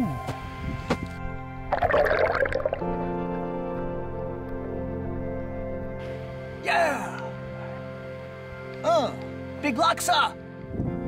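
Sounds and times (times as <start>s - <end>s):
music with long held tones: 0.0s - 11.0s.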